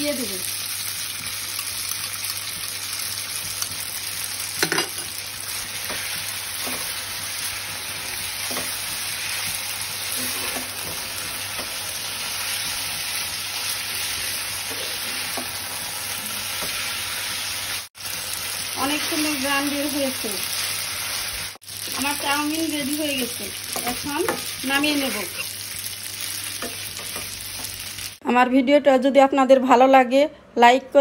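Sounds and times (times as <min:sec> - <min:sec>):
noodles sizzling in a frying pan: 0:00.0 - 0:28.2.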